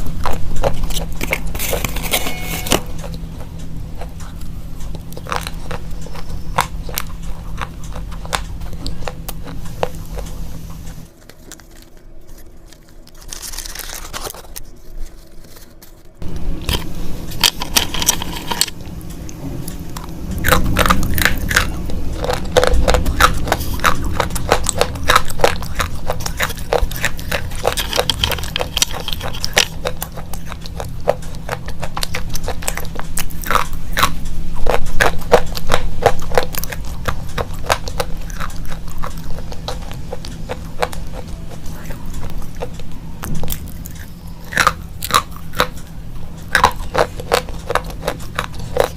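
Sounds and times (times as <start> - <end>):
faint low hum: 0.0 - 48.9
slate pencils crunching: 0.0 - 48.9.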